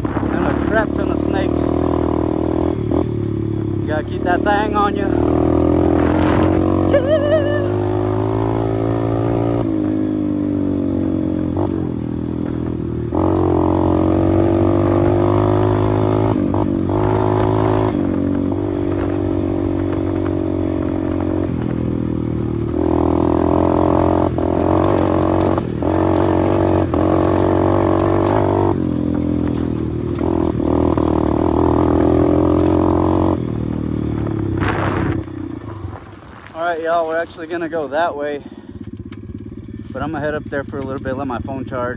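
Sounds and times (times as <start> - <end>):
pit bike engine running: 0.0 - 41.9.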